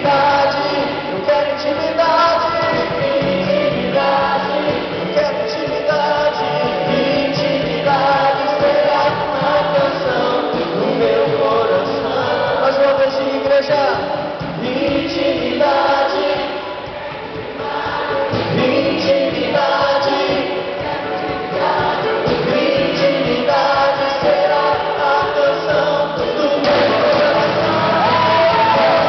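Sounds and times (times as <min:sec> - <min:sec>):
group of singers: 0:00.0 - 0:29.0
worship band playing: 0:00.0 - 0:29.0.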